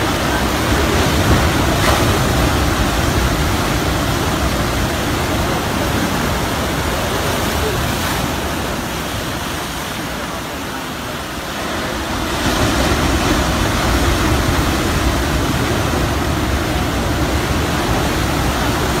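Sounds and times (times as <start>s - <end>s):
surf waves breaking: 0.0s - 19.0s.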